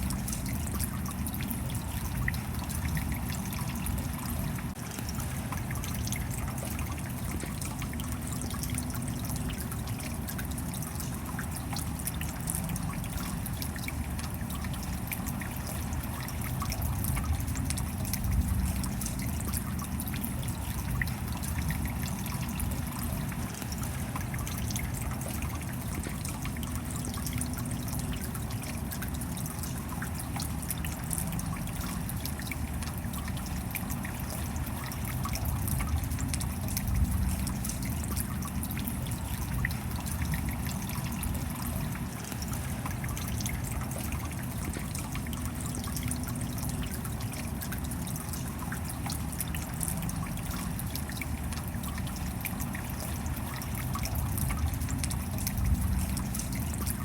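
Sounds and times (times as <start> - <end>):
steady rain: 0.0 - 57.0
water drop ticks: 0.0 - 57.0
water trickling: 0.0 - 57.0.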